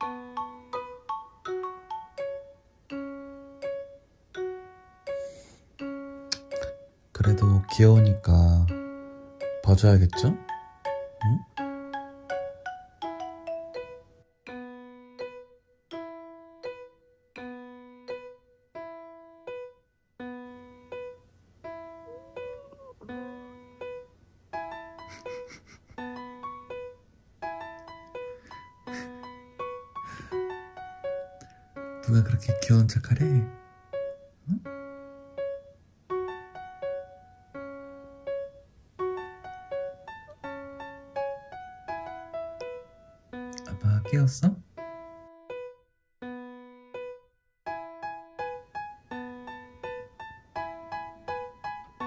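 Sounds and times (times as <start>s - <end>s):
gentle piano music: 0.0s - 52.0s.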